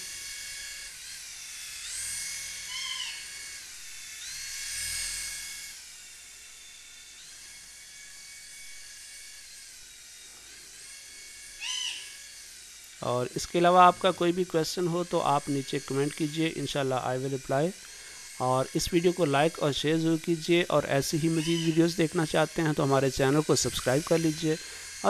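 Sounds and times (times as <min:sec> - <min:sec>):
toy helicopter motors whining: 0:00.0 - 0:25.0.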